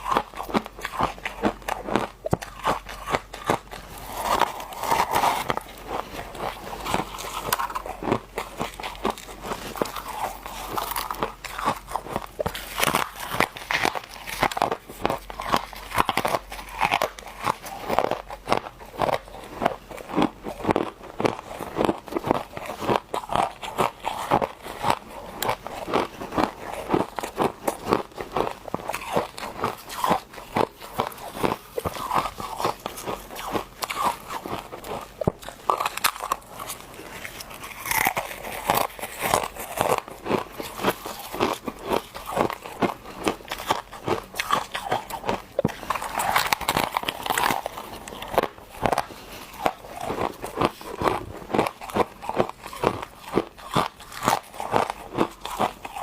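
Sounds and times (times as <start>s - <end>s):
crunching and chewing ice: 0.0s - 56.0s.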